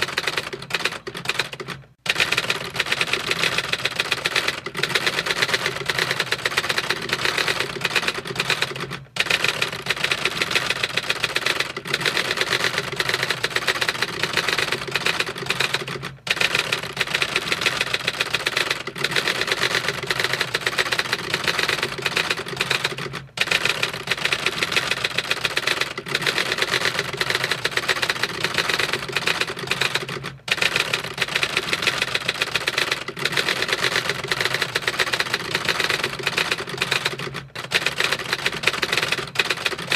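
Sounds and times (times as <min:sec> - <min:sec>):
rapid mechanical clicking clatter: 0:00.0 - 0:39.9.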